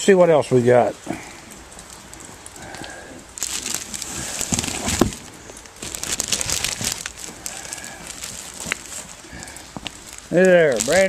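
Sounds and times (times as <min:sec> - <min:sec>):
packing paper rustling: 0:01.2 - 0:11.0.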